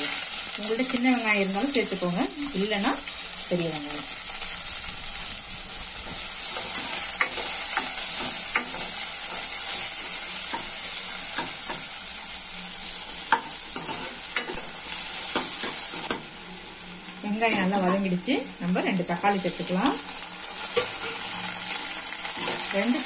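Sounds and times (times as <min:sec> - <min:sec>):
onions sizzling in hot oil: 0:00.0 - 0:23.0.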